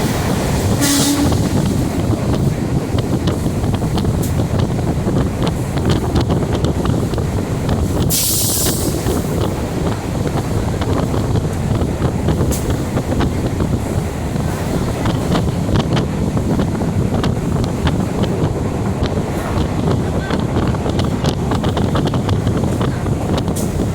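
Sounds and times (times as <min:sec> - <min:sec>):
train rumbling: 0:00.0 - 0:23.9
wind buffeting microphone: 0:00.0 - 0:23.9.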